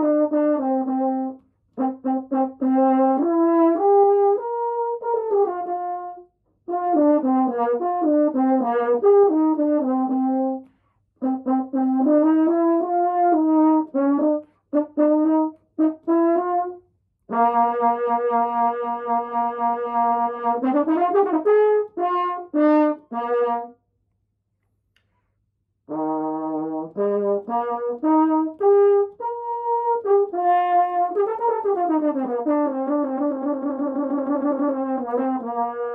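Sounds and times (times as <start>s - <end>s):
french horn playing: 0.0s - 23.8s, 25.9s - 35.9s.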